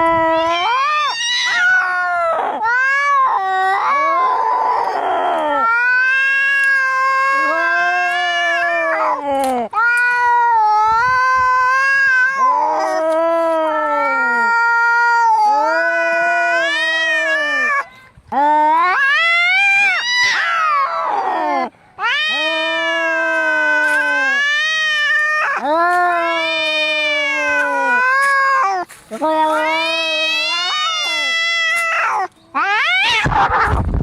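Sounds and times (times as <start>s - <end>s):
cats yowling: 0.0s - 33.9s.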